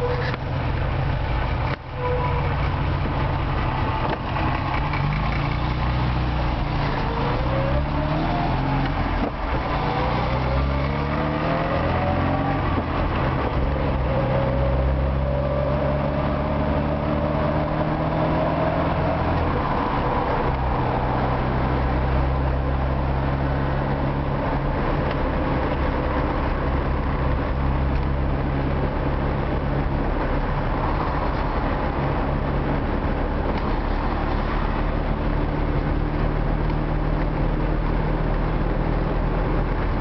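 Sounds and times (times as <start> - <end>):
car engine drone from inside: 0.0 - 40.0.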